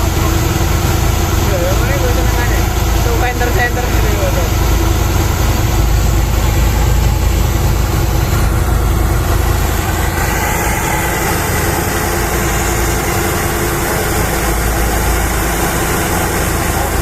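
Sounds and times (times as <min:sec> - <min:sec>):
boat engine running steadily: 0:00.0 - 0:17.0.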